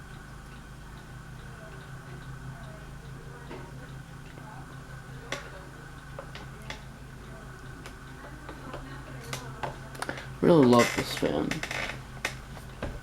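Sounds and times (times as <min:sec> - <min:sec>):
ceiling fan motor hum: 0:00.0 - 0:13.0
light ticks and clicks: 0:00.0 - 0:13.0.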